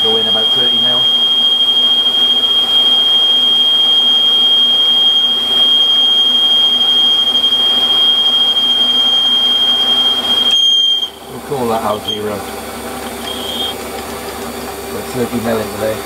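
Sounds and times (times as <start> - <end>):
high-pitched whine: 0.0 - 12.5, 13.2 - 13.8
machine low hum: 0.0 - 16.0
metal lathe boring cut: 0.0 - 16.0.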